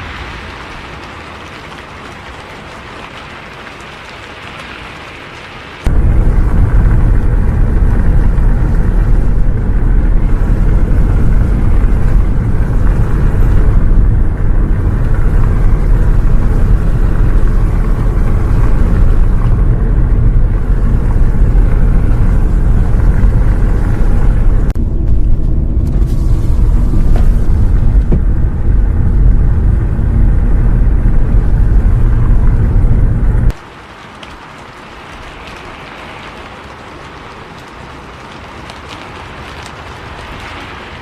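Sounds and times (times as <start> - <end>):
bus engine and road rumble: 5.8 - 41.0.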